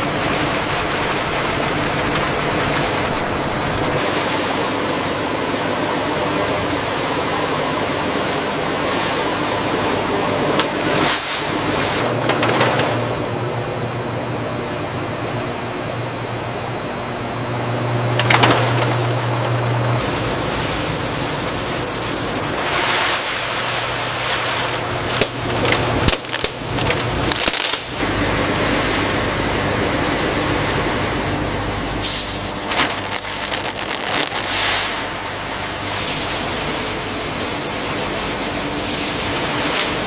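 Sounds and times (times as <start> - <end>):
factory machinery hum: 0.0 - 40.0.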